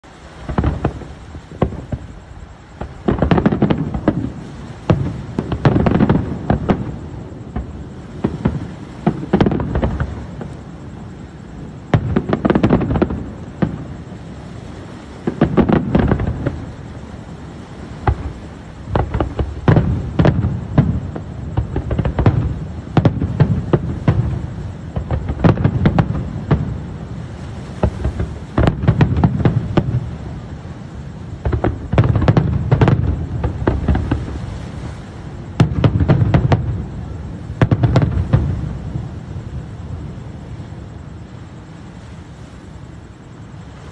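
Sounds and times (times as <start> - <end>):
fireworks bursting with bangs: 0.0 - 43.9.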